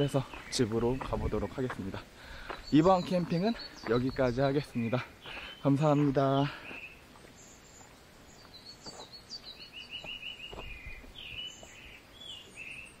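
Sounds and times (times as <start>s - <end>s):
birds chirping: 0.0s - 13.0s
faint outdoor background noise: 0.0s - 13.0s.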